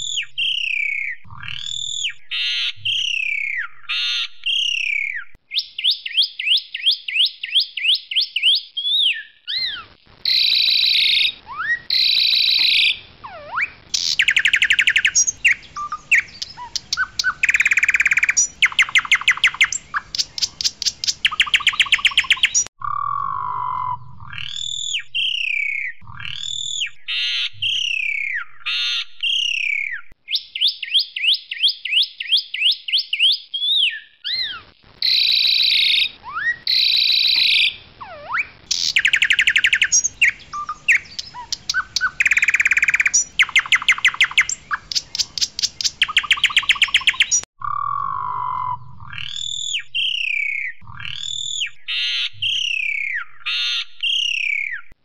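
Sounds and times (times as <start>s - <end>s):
starling singing: 7.9s - 31.3s, 32.6s - 55.0s.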